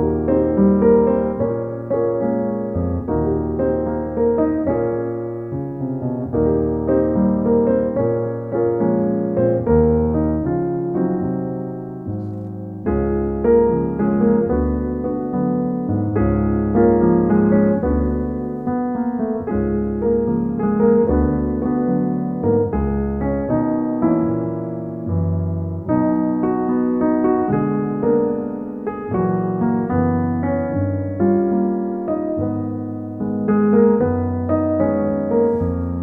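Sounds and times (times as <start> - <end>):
soft piano chords: 0.0 - 36.0.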